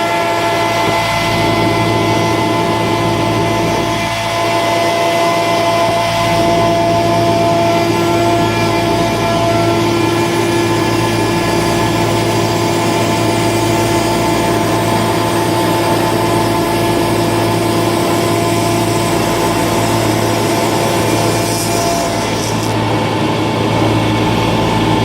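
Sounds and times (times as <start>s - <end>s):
cnc router machine whine: 0.0s - 25.0s.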